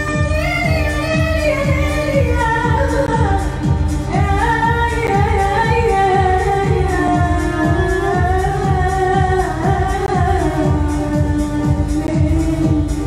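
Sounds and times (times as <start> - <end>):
keyboard: 0.0 - 13.0
woman singing: 0.0 - 13.0.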